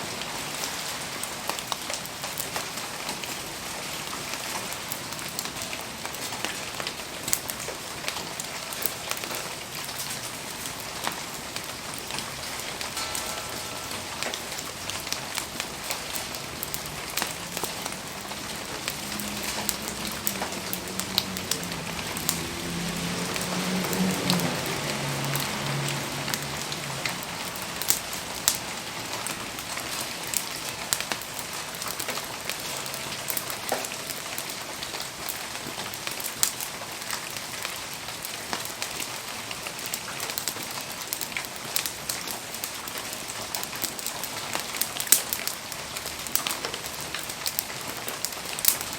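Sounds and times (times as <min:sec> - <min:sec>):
rain falling on surfaces: 0:00.0 - 0:48.9.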